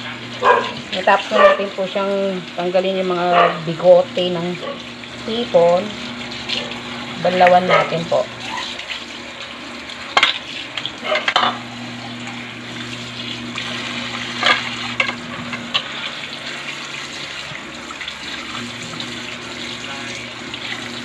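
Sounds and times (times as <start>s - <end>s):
tap water running into metal basin: 0.0s - 21.0s.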